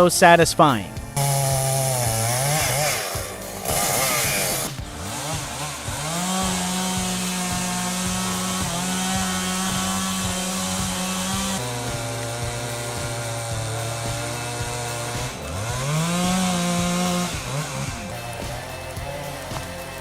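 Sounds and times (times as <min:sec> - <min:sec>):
chainsaw revving and cutting wood: 0:00.0 - 0:20.0.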